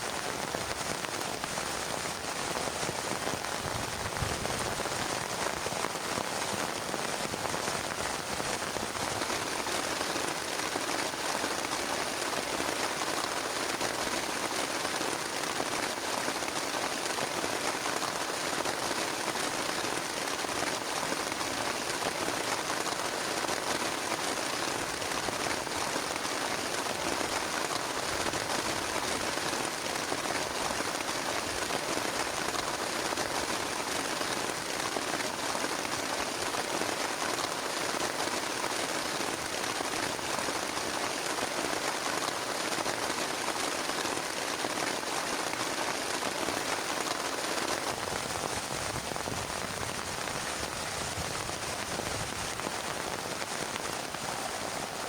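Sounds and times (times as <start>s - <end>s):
heavy rain on plastic tarp: 0.0s - 55.0s.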